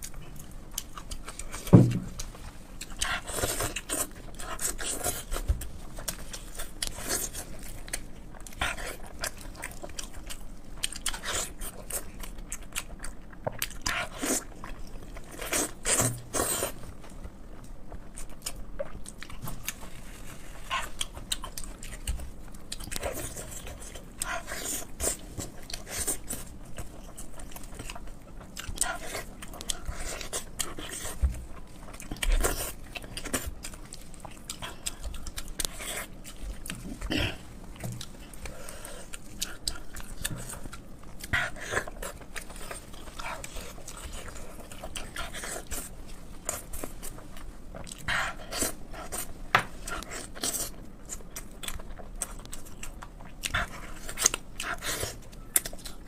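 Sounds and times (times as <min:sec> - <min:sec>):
person chewing with mouth smacks: 0:00.0 - 0:56.0.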